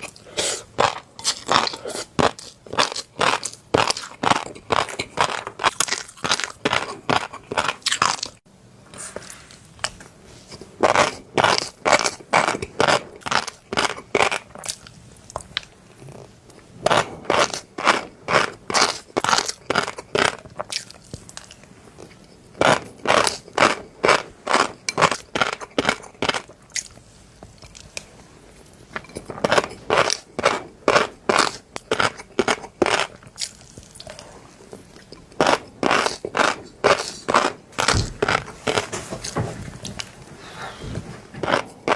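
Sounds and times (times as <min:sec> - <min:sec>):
crunchy chewing: 0:00.0 - 0:41.9.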